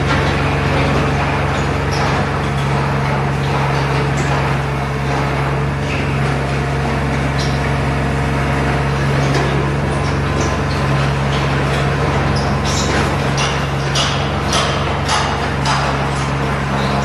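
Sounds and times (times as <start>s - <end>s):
factory machinery low hum: 0.0s - 17.0s.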